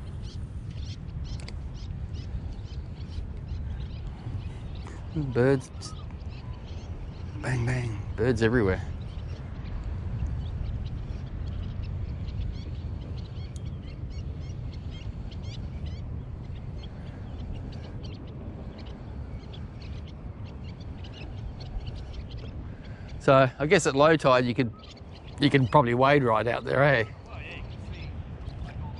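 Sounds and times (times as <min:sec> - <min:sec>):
birds chirping: 0:00.0 - 0:28.9
steady low rumble: 0:00.0 - 0:28.9.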